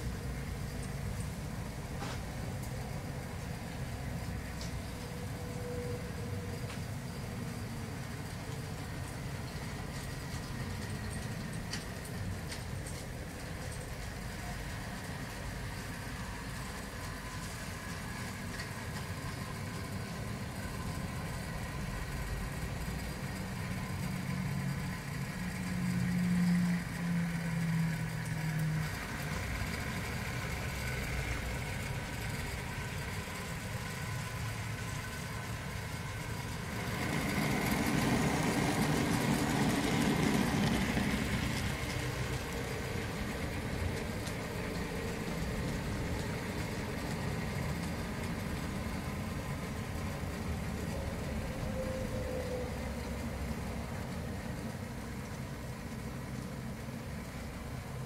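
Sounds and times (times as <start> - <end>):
model train engine drone: 0.0 - 58.0
model train rushing rumble: 0.0 - 58.0.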